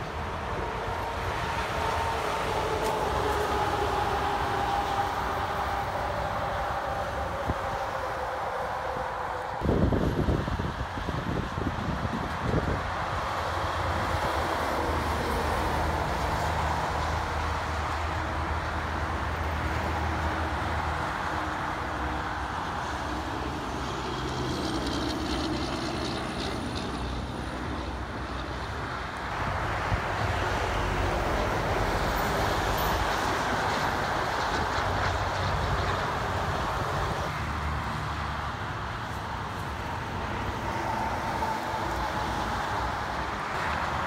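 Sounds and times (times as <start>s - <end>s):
diesel truck engines droning: 0.0s - 44.0s
tyre roar of traffic: 0.0s - 44.0s.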